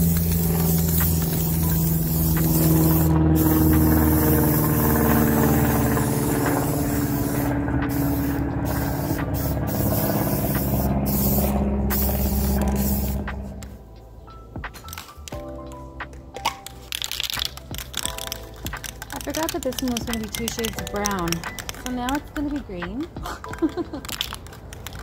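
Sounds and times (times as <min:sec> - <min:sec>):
spray paint can hissing: 0:00.0 - 0:13.8, 0:16.6 - 0:25.0.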